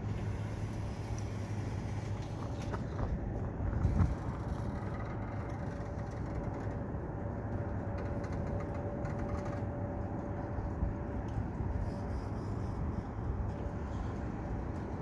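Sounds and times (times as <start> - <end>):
faint steady hum: 0.0 - 15.0
low engine rumble: 0.0 - 15.0.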